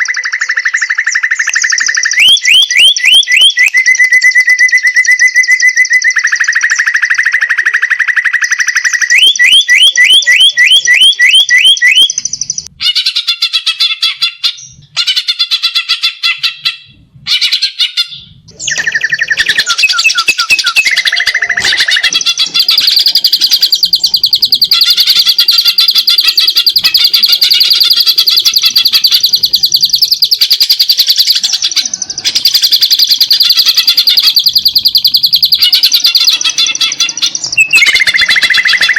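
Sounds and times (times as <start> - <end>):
bird singing fast trills: 0.0 - 38.9.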